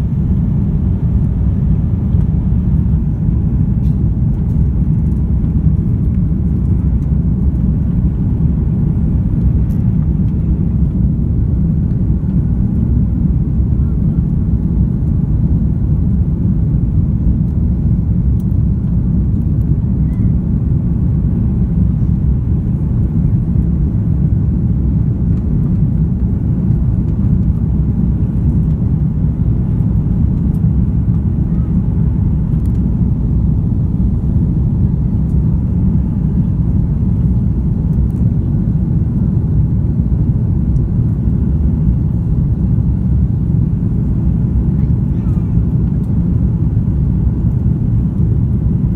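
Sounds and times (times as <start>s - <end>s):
airliner engines rumbling: 0.0s - 48.9s.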